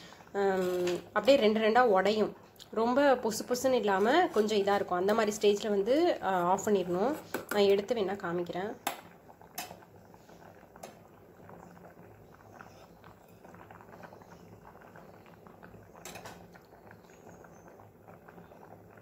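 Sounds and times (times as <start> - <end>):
water bubbling in a pot: 0.0 - 19.0.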